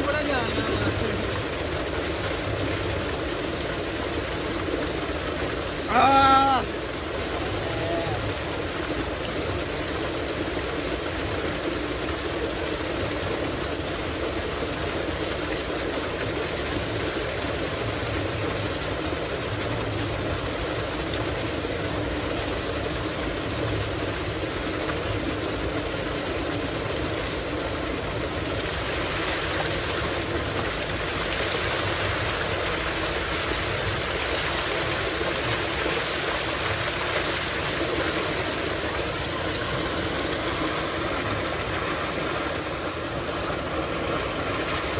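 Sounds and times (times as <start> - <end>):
pump humming: 0.0 - 44.9
water gushing from pipe into tank: 0.0 - 44.9.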